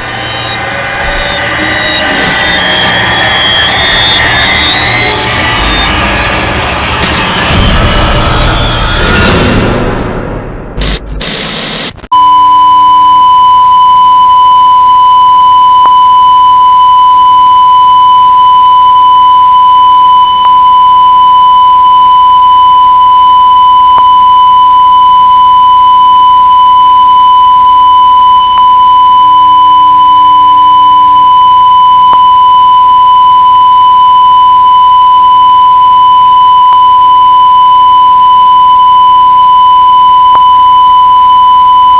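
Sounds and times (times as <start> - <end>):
high electronic test tone: 0.0 - 9.9, 10.8 - 41.9.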